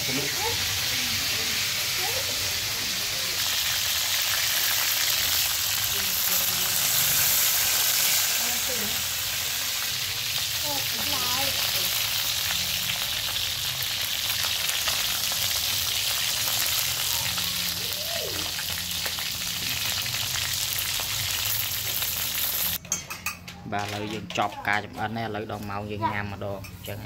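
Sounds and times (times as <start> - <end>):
frying sizzle in oil: 0.0 - 23.4.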